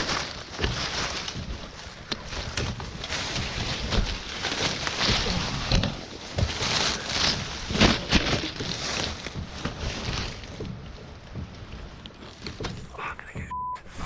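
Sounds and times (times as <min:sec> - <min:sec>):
rustling through undergrowth: 0:00.0 - 0:14.0.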